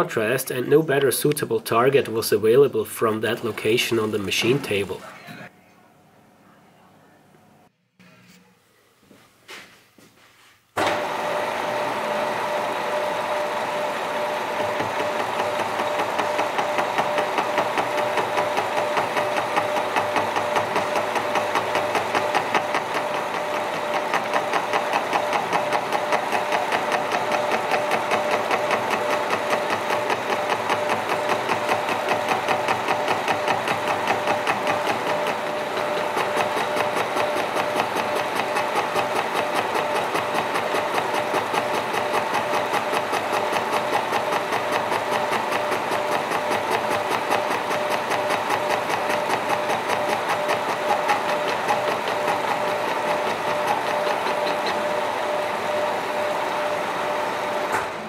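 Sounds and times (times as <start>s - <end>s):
milling spindle drive hum: 10.8s - 57.9s.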